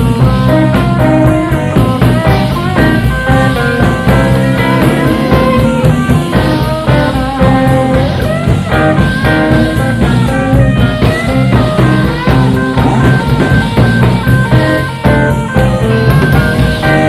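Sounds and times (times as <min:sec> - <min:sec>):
bass guitar: 0:00.0 - 0:17.0
drums: 0:00.0 - 0:17.0
electric guitar lead with bent notes: 0:00.0 - 0:17.0.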